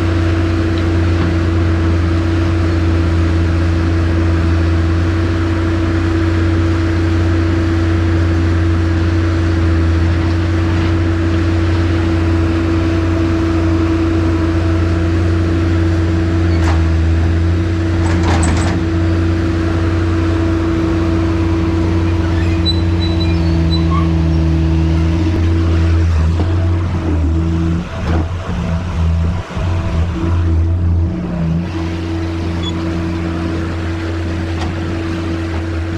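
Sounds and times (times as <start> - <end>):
skid steer engine running: 0.0 - 35.9.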